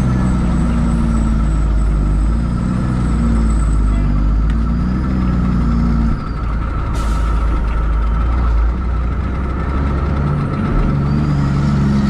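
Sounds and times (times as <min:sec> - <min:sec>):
fire truck diesel engine running: 0:00.0 - 0:12.0.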